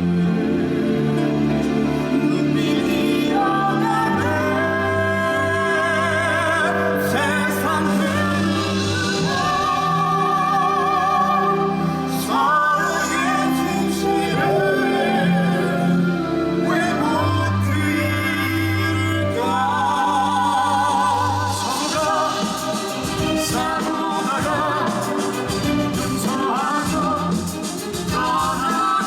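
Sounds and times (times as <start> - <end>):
orchestral accompaniment: 0.0 - 29.0
person singing with vibrato: 0.0 - 29.0.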